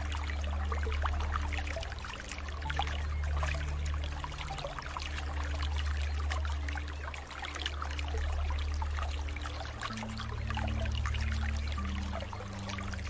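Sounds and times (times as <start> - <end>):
low steady drone: 0.0 - 13.0
water trickling and splashing: 0.0 - 13.0.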